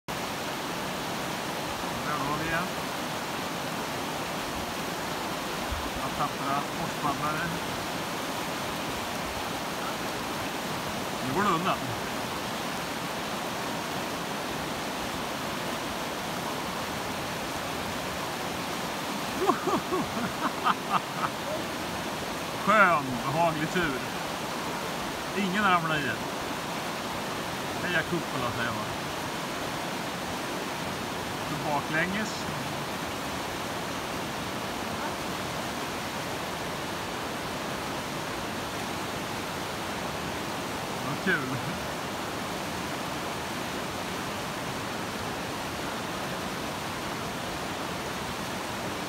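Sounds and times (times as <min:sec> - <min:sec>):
rapids rushing over boulders: 0:00.1 - 0:49.0.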